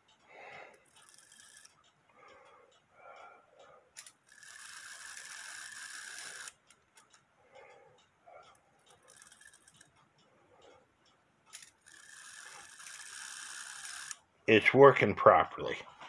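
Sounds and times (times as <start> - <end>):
clock gear train whirring: 0.0 - 14.3.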